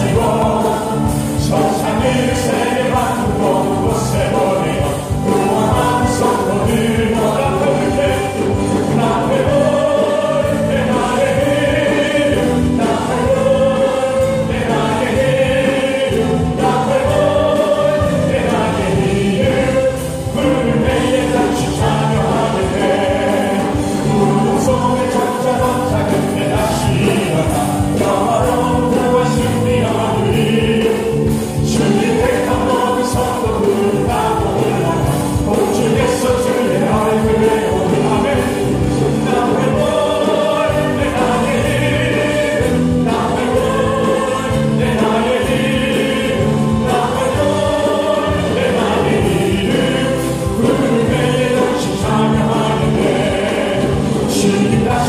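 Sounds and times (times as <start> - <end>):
band accompaniment with beat: 0.0 - 55.0
man singing lead: 0.0 - 55.0
women singing: 0.0 - 55.0.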